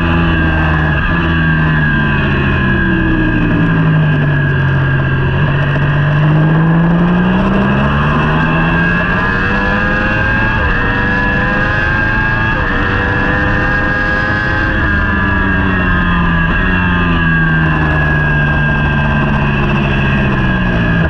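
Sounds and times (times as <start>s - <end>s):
racing motorcycle engine revving: 0.0s - 21.0s.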